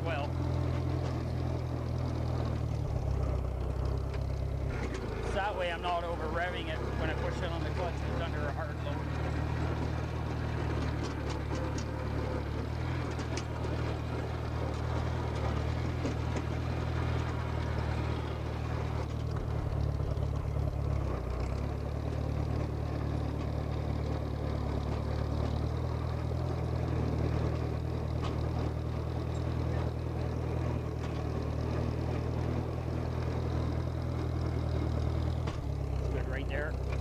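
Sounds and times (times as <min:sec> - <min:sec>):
bulldozer engine running: 0:00.0 - 0:37.0.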